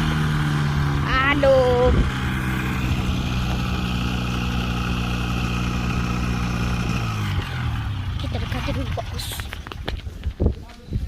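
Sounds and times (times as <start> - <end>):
propeller aircraft engine running: 0.0 - 10.4.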